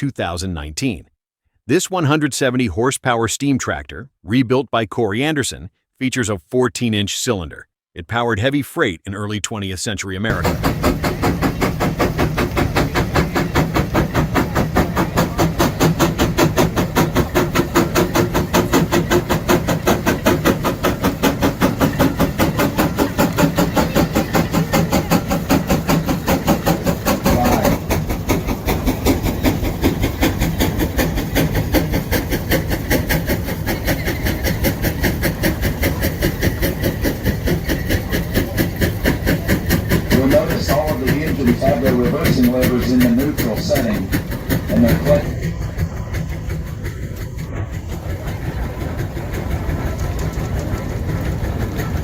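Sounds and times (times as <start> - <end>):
steam engine exhaust chuffing: 10.3 - 52.0.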